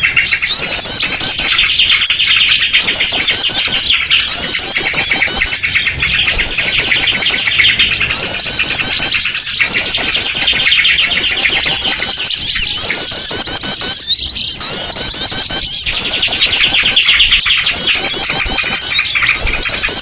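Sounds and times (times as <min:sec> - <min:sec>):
small birds chirping and twittering: 0:00.0 - 0:20.0.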